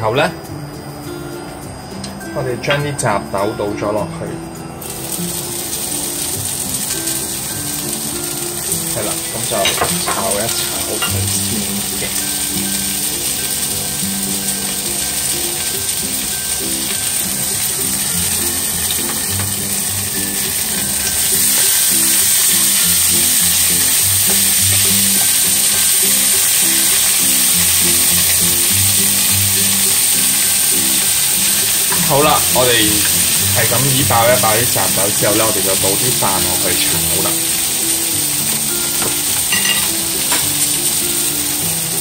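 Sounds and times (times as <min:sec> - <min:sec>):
soft background music: 0:00.0 - 0:42.0
vegetables sizzling in oil: 0:04.8 - 0:42.0.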